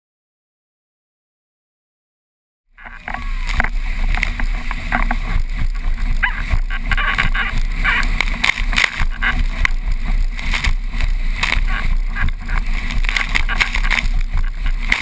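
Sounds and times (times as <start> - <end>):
board slapping on water: 2.8 - 15.0
wind buffeting microphone: 2.8 - 15.0.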